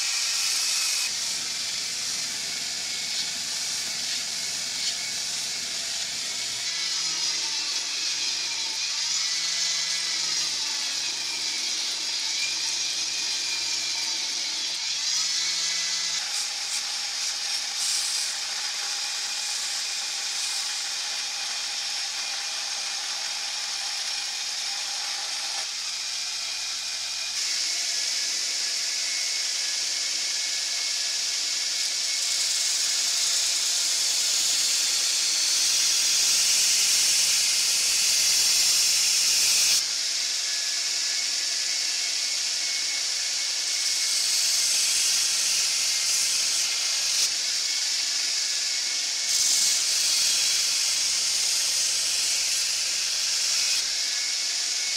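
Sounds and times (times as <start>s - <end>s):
belt grinder grinding blade: 0.0s - 54.9s.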